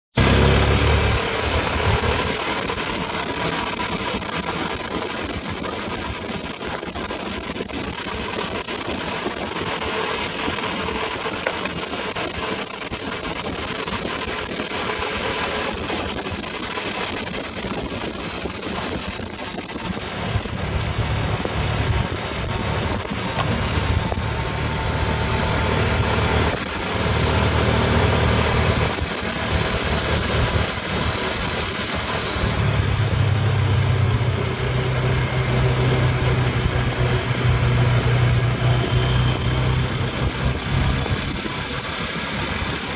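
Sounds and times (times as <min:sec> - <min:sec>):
atv engine rumble: 0:00.1 - 0:13.8, 0:14.7 - 0:42.9.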